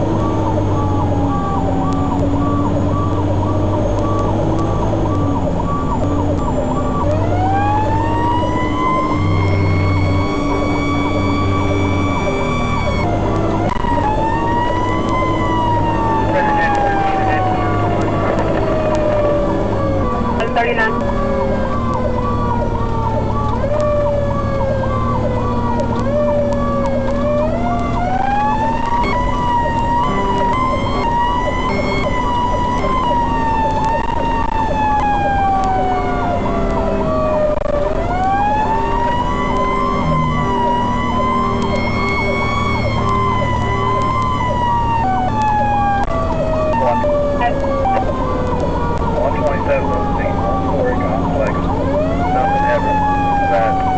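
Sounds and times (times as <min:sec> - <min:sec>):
siren wailing: 0:00.0 - 0:53.9
truck engine drone: 0:00.0 - 0:53.9.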